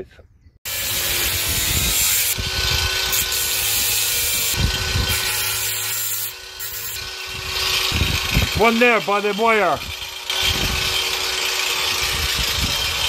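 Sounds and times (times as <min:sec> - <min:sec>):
power sander grinding: 0:00.7 - 0:13.0.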